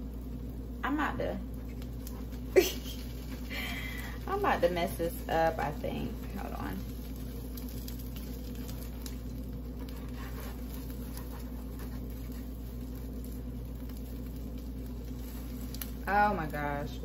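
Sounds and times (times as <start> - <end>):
egg frying in a pan: 0.0 - 17.0
low hum: 0.0 - 17.0.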